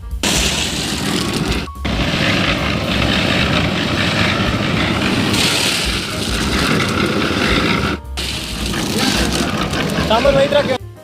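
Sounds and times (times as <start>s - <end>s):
machine running steadily: 0.0s - 10.8s.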